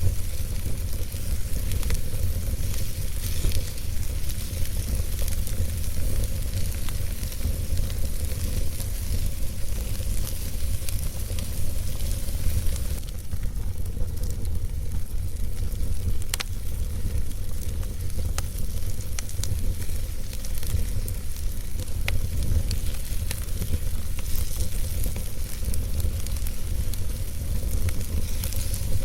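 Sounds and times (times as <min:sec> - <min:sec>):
fire flames rumbling and hissing: 0:00.0 - 0:29.0
logs crackling and popping: 0:00.0 - 0:29.0.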